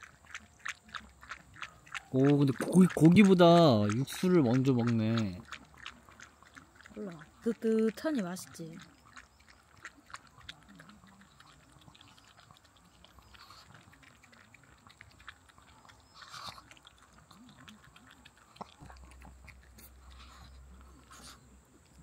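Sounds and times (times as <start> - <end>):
dog chewing: 0.0 - 22.0
dog lapping and slurping: 0.0 - 22.0.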